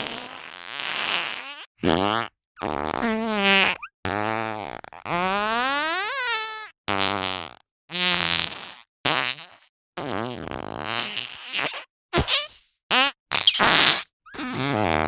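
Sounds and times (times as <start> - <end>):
fart putty squelching: 0.0 - 4.9, 5.5 - 15.0.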